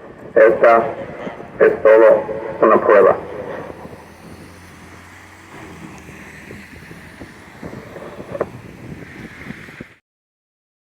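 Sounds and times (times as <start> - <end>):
low outdoor rumble: 0.0 - 9.8
wind buffeting microphone: 0.0 - 10.0.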